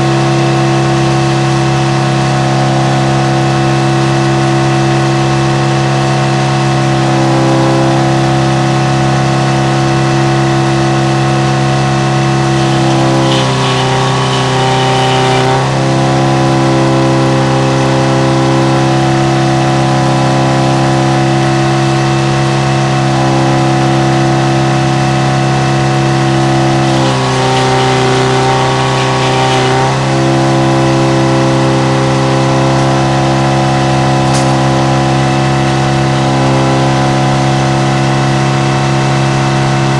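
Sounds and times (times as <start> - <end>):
sawmill power unit drone: 0.0 - 39.9.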